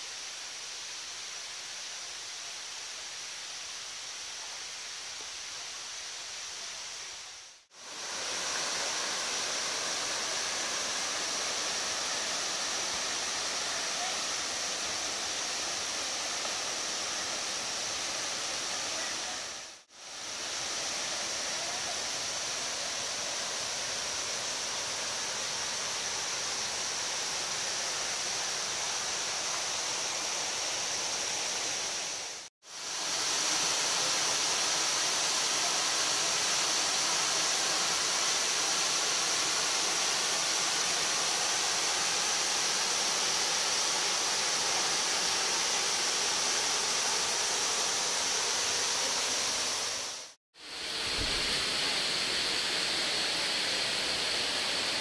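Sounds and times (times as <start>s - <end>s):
high hiss: 0.0s - 55.0s
water rushing in stream and waterfall: 0.0s - 55.0s.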